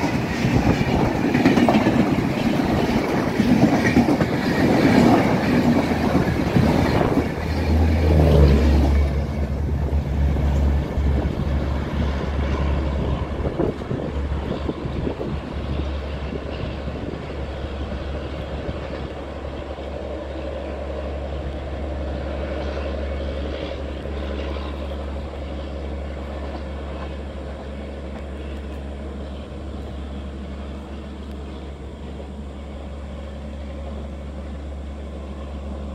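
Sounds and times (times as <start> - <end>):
rail noise: 0.0 - 35.9
train rumbling: 0.0 - 35.9.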